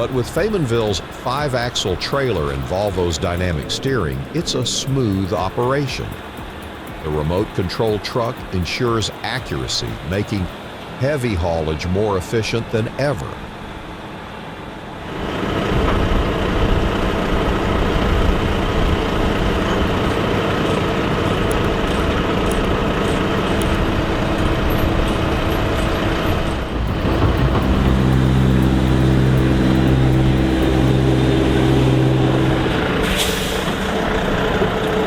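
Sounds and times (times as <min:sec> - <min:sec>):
heavy diesel engine running: 0:00.0 - 0:11.0, 0:14.4 - 0:35.0.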